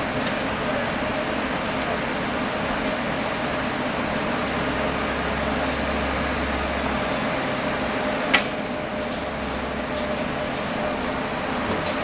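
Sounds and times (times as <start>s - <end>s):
electric trains humming and whirring: 0.0s - 12.0s.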